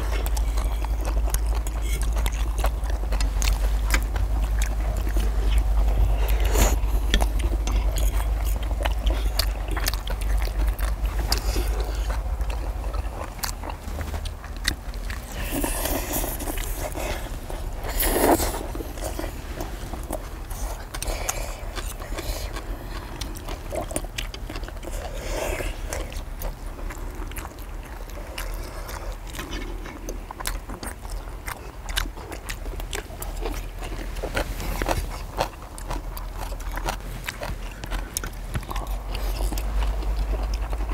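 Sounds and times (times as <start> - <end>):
low steady rumble: 0.0 - 40.9
people chewing: 0.0 - 40.9.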